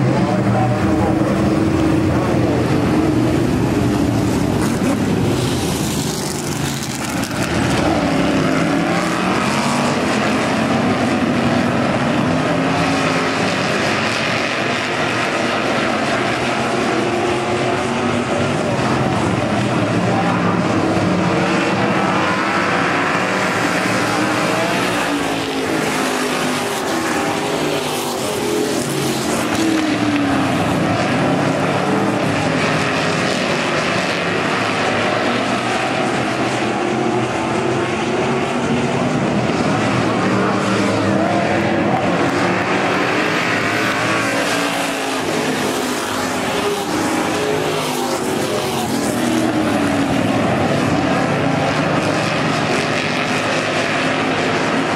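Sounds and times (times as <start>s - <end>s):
stock car engines racing: 0.0s - 54.9s.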